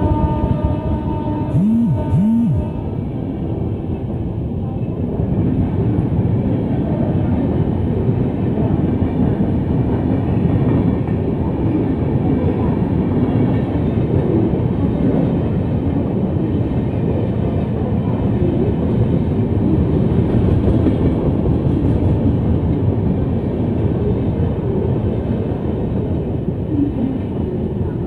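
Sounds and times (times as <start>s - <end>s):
train rumbling over rails: 0.0s - 28.0s.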